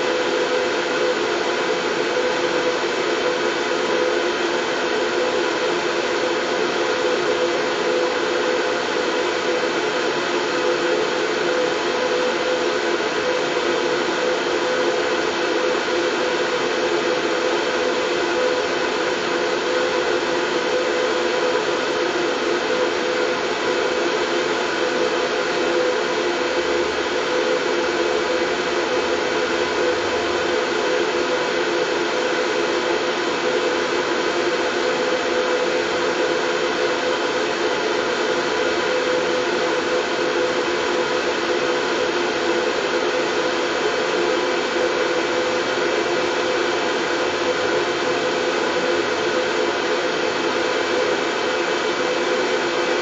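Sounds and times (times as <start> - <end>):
white noise: 0.0 - 53.0.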